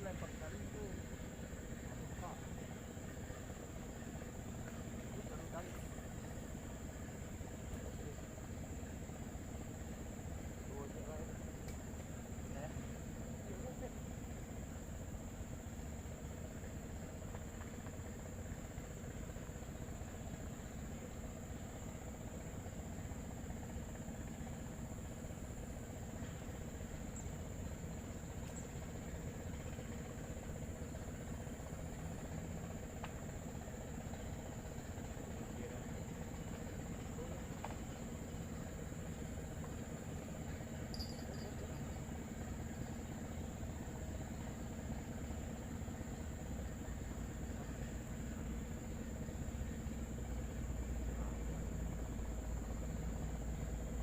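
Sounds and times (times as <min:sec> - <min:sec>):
insects droning: 0:00.0 - 0:54.0
low motor hum: 0:00.0 - 0:54.0.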